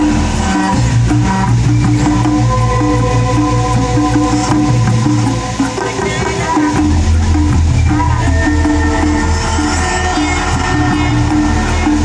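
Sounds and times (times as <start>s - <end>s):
loud music with pulsing bass: 0.0s - 12.0s.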